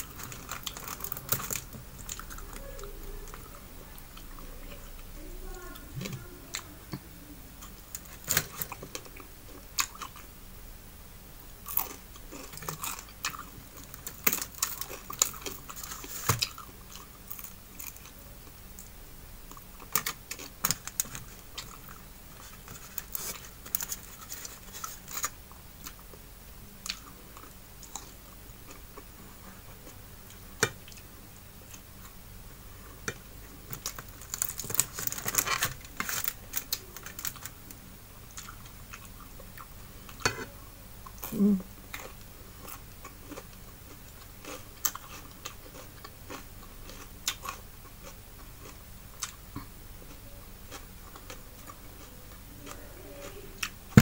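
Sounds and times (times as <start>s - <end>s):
chewing with crunches and clicks: 0.0s - 7.0s, 7.6s - 10.3s, 11.6s - 18.9s, 19.5s - 26.2s, 26.8s - 54.0s.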